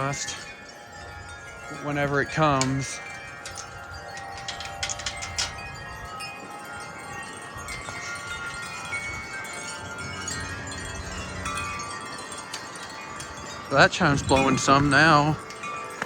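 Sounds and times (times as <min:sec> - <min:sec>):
low rumble of wind: 0:00.0 - 0:16.0
wind chimes ringing: 0:00.0 - 0:16.0.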